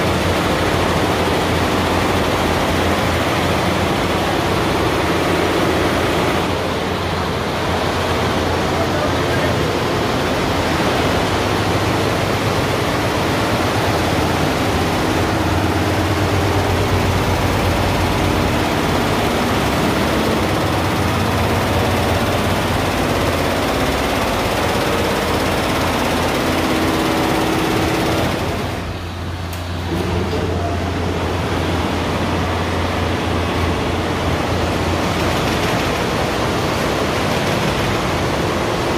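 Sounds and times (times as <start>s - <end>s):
embroidery machines running: 0.0s - 38.9s.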